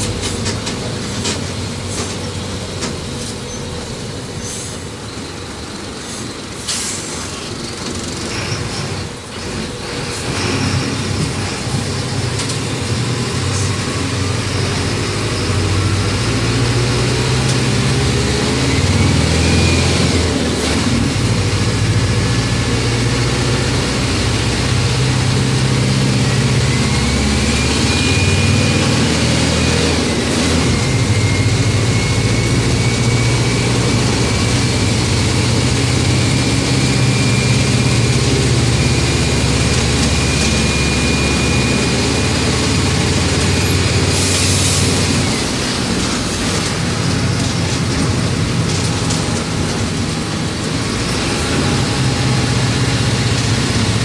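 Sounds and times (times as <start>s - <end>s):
diesel bus engine rumbling: 0.0s - 54.0s.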